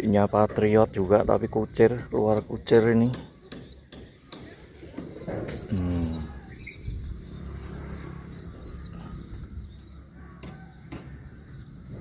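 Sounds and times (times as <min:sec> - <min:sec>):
small birds chirping: 0:00.0 - 0:12.0
pigeons cooing: 0:00.7 - 0:12.0.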